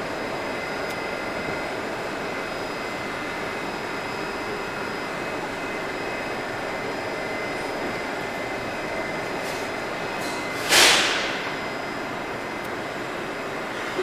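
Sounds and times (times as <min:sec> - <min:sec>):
high whine: 0:00.0 - 0:14.0
metro train whooshing hum: 0:00.0 - 0:14.0.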